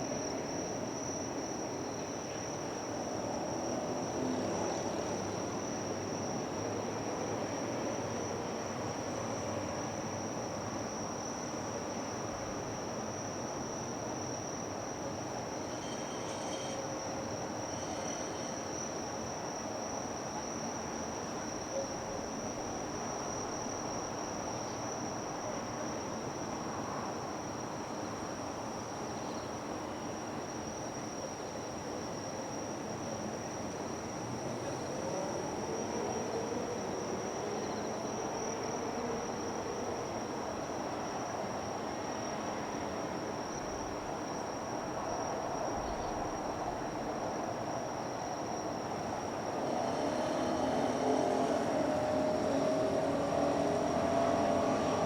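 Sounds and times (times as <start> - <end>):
insects trilling: 9.4 - 55.0.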